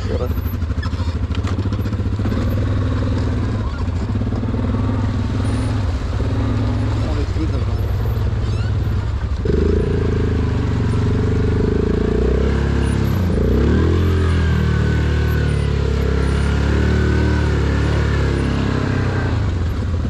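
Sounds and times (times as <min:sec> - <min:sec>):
atv engine revving: 0:00.0 - 0:20.0
wading through river water: 0:00.0 - 0:20.0.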